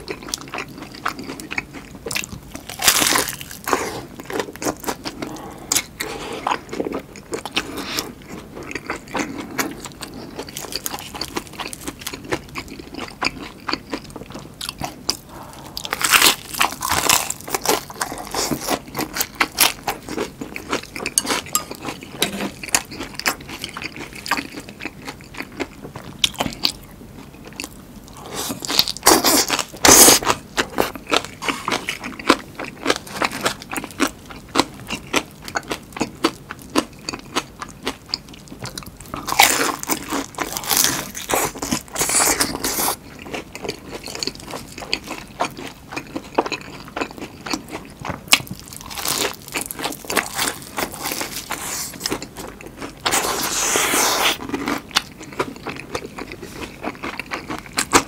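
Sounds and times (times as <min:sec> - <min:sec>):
crunching bites and chewing: 0:00.0 - 0:58.0.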